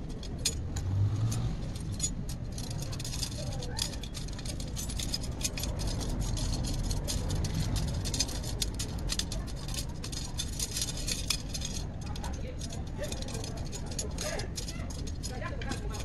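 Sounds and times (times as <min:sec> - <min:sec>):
bicycle spokes clinking: 0:00.0 - 0:16.0.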